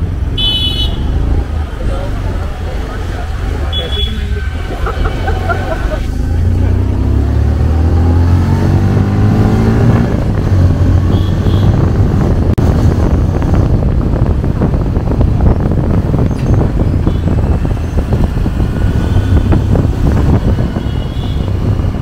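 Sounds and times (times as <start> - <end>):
wind rushing over microphone: 1.1 - 22.0.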